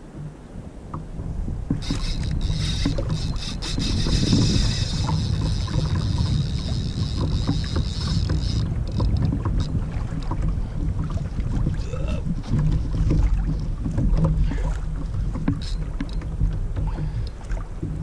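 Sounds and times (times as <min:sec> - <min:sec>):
water splashing along hull: 0:00.0 - 0:18.0
wind buffeting microphone: 0:00.0 - 0:18.0.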